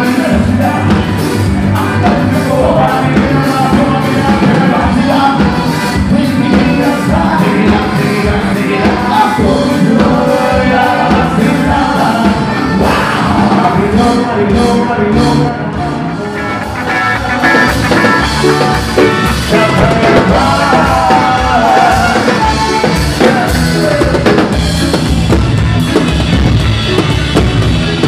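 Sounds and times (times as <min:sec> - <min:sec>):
person singing: 0:00.0 - 0:25.1
bass guitar: 0:00.0 - 0:28.0
saxophone and trumpet horn section: 0:00.0 - 0:28.0
steady drum beat: 0:00.0 - 0:28.0.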